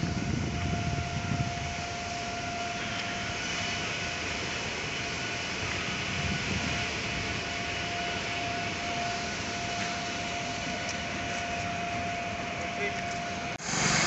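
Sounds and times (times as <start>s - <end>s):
mechanical drone of machinery: 0.0s - 14.0s
mid-pitched hum: 0.0s - 14.0s.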